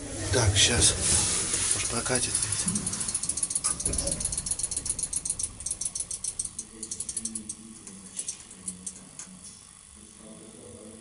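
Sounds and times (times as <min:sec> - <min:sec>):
rapid ratchet-like mechanical clicking: 0:01.1 - 0:11.0.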